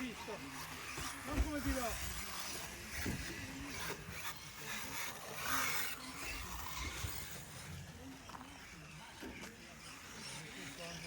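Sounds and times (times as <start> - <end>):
rc cars tyres scrabbling: 0.0 - 11.0.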